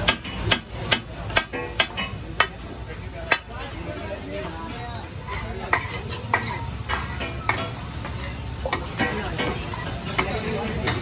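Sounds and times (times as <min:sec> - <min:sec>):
meat sizzling on griddle: 0:00.0 - 0:11.0
spatula clacking on griddle: 0:00.0 - 0:11.0
spatula scraping griddle: 0:00.0 - 0:11.0.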